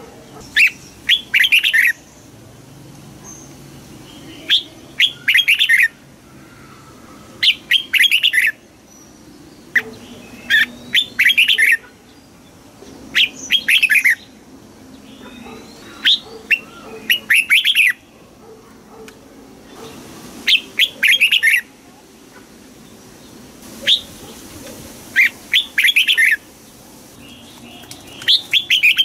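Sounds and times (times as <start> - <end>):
bird singing bright phrases: 0.3 - 2.4, 3.2 - 18.3, 19.7 - 22.2, 22.8 - 24.3, 25.1 - 29.0.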